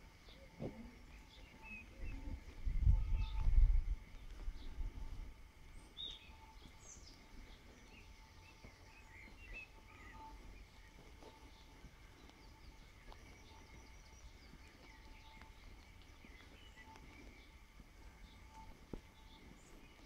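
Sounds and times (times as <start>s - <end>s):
small birds chirping: 0.0s - 20.0s
wind rumble on microphone: 0.0s - 20.0s.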